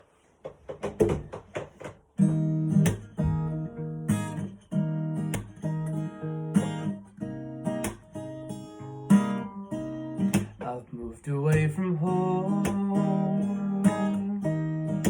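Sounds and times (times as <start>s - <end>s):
acoustic guitar strumming: 2.2s - 15.0s.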